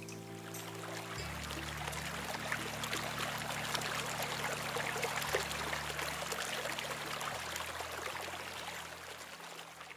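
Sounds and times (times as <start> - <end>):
water running and splashing: 0.0 - 9.9.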